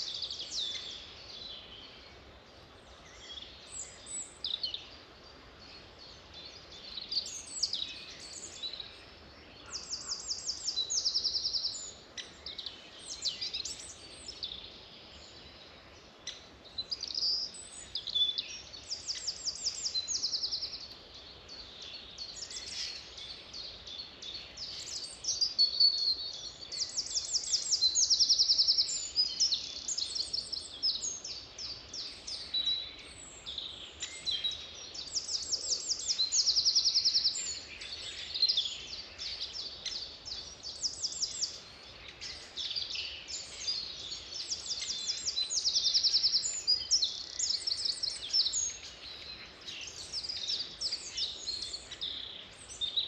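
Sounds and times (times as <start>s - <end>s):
faint background noise: 0.0s - 53.0s
songbirds chirping: 0.0s - 53.0s.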